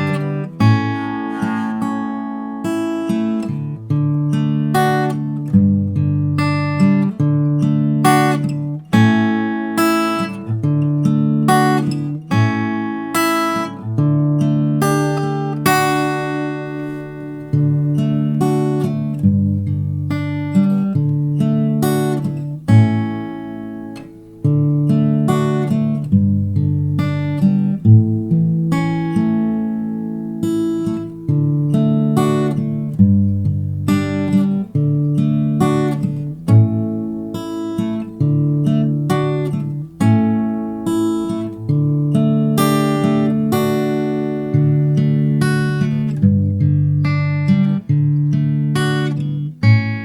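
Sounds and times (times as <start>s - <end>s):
acoustic guitar chords: 0.0s - 50.0s.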